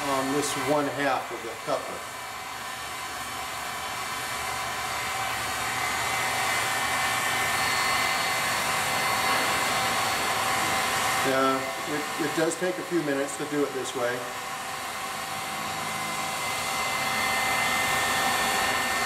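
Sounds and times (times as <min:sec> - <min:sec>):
faint fan motor whine: 0:00.0 - 0:19.0
heat gun hot air rush: 0:00.0 - 0:19.0.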